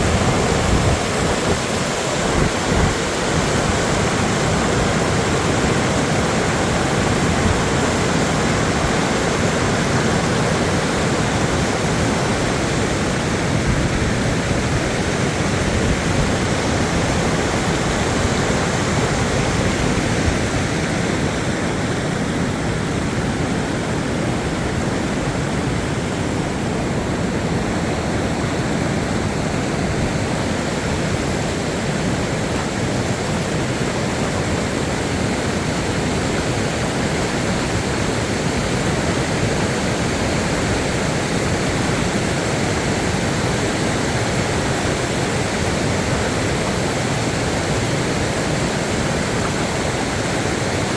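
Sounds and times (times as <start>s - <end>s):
water rushing: 0.0s - 50.9s.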